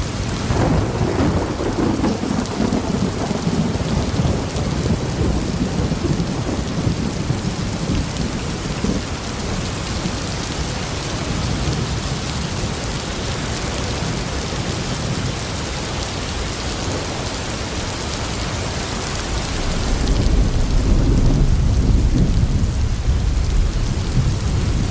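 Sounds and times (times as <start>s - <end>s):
heavy rain: 0.0s - 24.9s
thunder rumbling: 0.0s - 24.9s.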